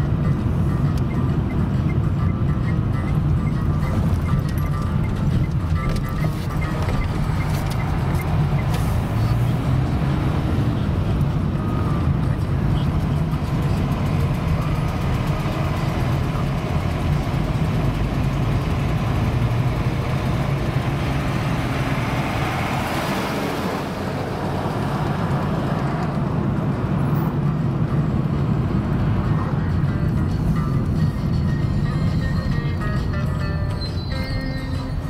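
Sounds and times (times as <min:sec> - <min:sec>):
bus passing: 0:00.0 - 0:35.0
car engine hum: 0:00.0 - 0:35.0
tyre road noise: 0:00.0 - 0:35.0.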